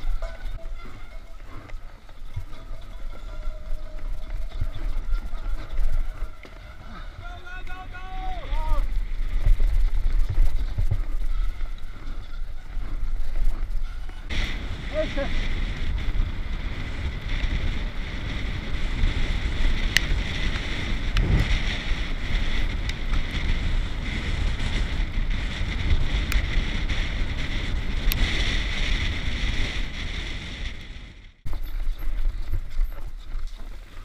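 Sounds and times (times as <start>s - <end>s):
bike tyres rumbling over dirt: 0.0s - 34.0s
wind buffeting a camera: 0.0s - 34.0s.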